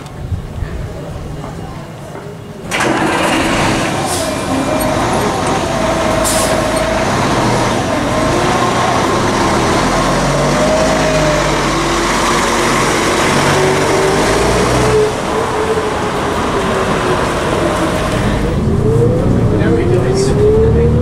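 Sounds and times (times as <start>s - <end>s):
bus diesel engine pulling away: 2.6s - 21.0s.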